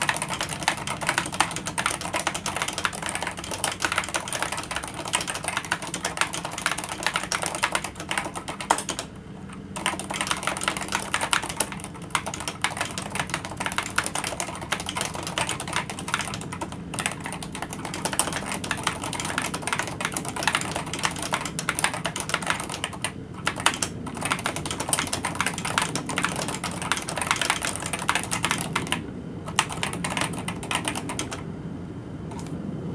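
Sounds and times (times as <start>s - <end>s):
fast keyboard typing: 0.0s - 31.5s, 32.3s - 32.6s.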